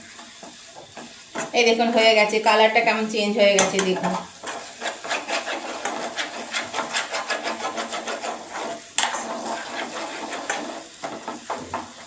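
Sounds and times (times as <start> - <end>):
spatula scraping in pan: 0.0 - 12.0.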